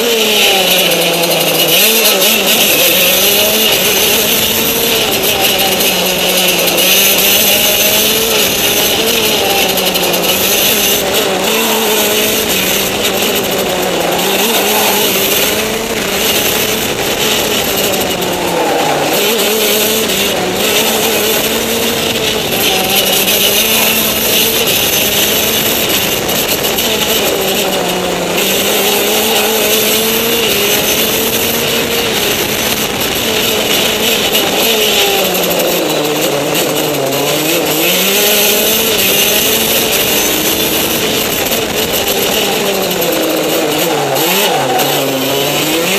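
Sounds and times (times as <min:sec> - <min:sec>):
go-kart engine running: 0:00.0 - 0:45.9
wind noise: 0:00.0 - 0:45.9.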